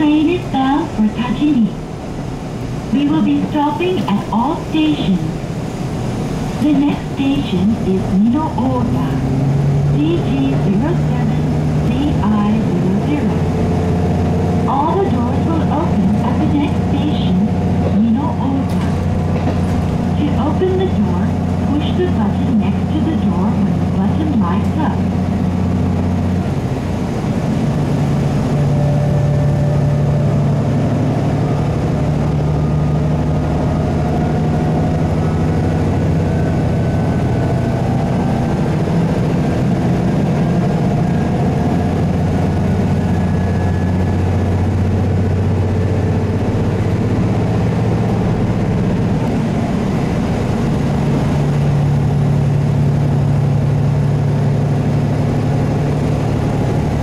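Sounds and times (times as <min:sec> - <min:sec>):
diesel railcar engine droning: 0:00.0 - 0:57.0.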